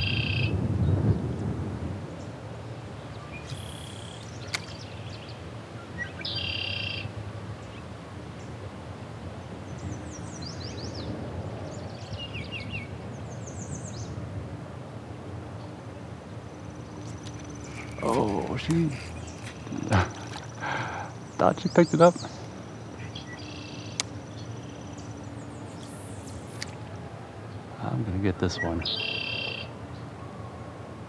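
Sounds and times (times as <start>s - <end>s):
songbirds chirping and trilling: 0.0s - 1.3s, 2.2s - 8.7s, 9.3s - 14.2s, 15.4s - 31.0s
outdoor background noise: 0.0s - 31.0s.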